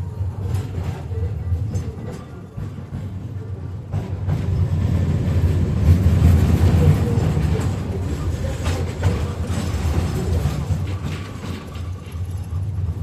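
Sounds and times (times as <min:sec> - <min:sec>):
tram wheels rumbling on track: 0:00.0 - 0:13.0.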